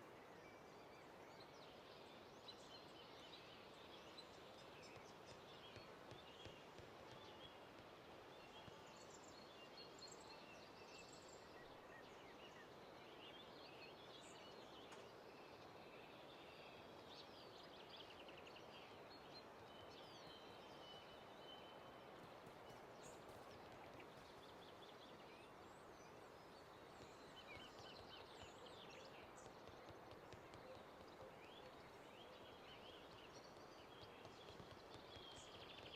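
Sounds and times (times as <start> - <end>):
faint steady hiss: 0.0 - 35.9
small birds chirping: 0.2 - 16.6, 17.2 - 35.9.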